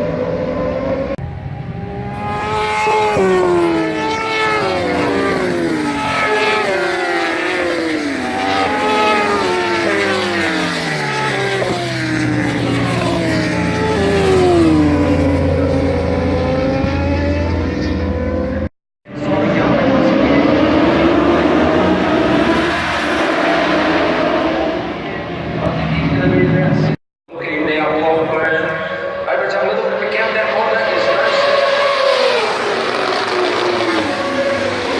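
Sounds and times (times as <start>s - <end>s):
superbikes passing at speed: 0.0s - 26.3s, 28.1s - 34.9s.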